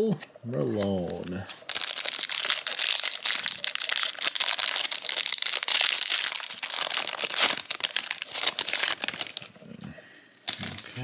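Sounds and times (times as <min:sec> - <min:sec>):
foil wrapper crinkling: 0:00.8 - 0:09.6, 0:10.4 - 0:11.0.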